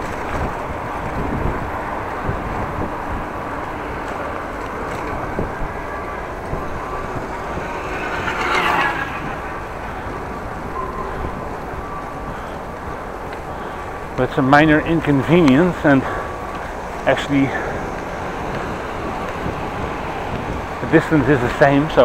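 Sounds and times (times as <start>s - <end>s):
rolling road noise: 0.0s - 22.0s
wind buffeting microphone: 0.0s - 22.0s.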